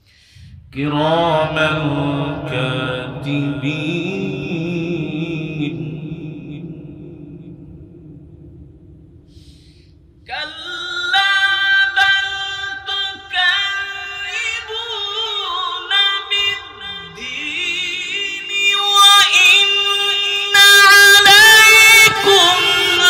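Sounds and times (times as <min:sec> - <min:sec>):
man reciting in melodic voice: 0:00.5 - 0:07.7, 0:10.3 - 0:23.0.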